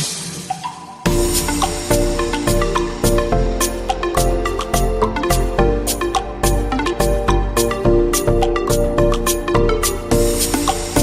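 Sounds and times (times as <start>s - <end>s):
electronic music with marimba notes: 0.2s - 11.0s.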